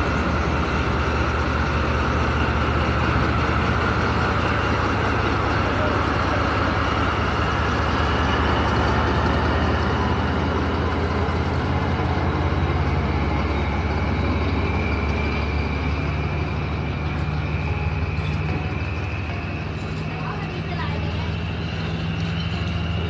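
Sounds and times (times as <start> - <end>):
coaches rolling noise: 0.0 - 23.0
train engine drone: 0.0 - 23.0.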